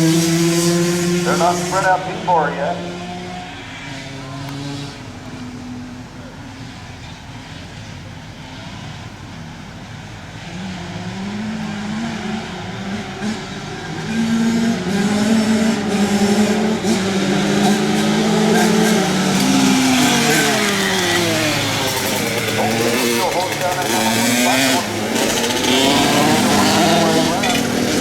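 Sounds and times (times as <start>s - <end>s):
pack of racing engines: 0.0s - 28.0s.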